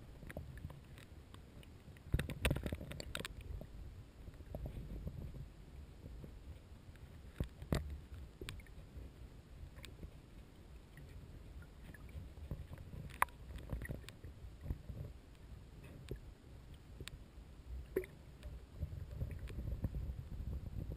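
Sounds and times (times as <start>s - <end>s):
muffled underwater water rumble: 0.0s - 20.9s.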